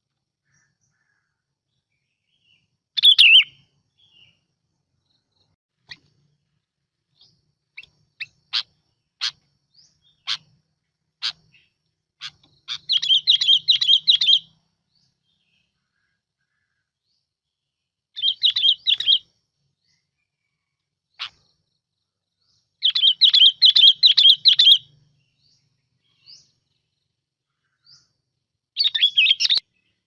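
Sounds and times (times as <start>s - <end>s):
bulbul singing: 0.4s - 17.3s, 18.2s - 20.2s, 22.3s - 30.0s.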